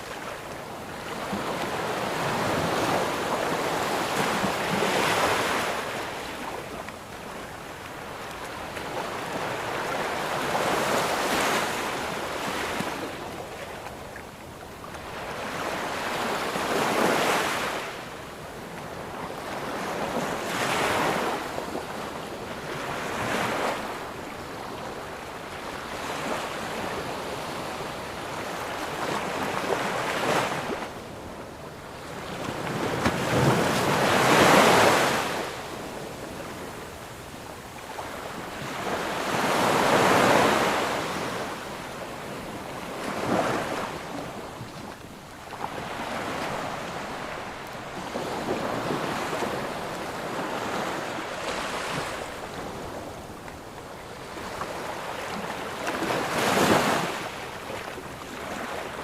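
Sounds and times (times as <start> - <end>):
sea waves breaking on a beach: 0.0 - 59.0.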